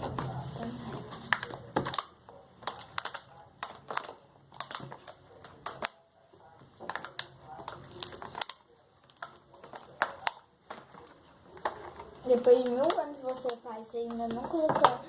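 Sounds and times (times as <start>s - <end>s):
slime clicking and crackling: 0.0s - 15.0s.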